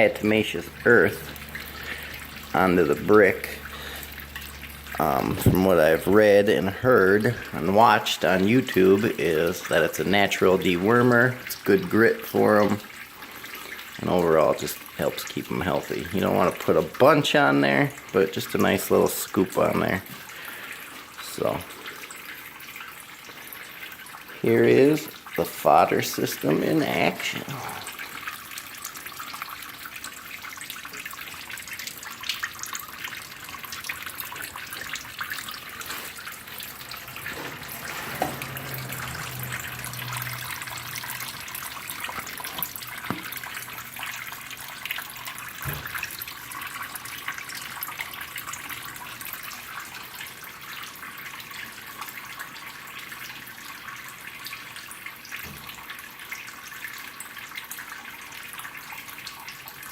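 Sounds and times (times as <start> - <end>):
small water drips: 0.0 - 59.9
water trickling: 0.0 - 59.9.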